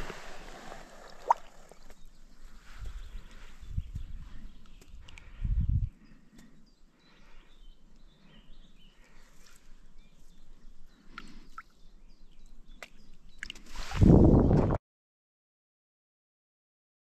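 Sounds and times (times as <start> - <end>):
songbirds chirping: 0.0 - 14.6.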